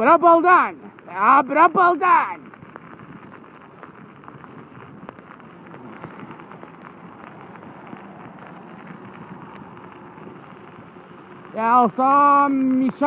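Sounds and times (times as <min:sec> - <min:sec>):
dog paws on road: 0:00.0 - 0:13.0
tyres rolling over wet road: 0:00.0 - 0:13.0.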